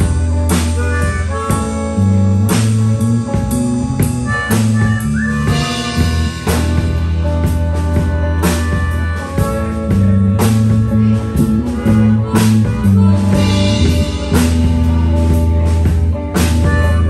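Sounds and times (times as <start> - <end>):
drum kit: 0.0 - 17.0
electric guitars: 0.0 - 17.0
low bass notes: 0.0 - 17.0.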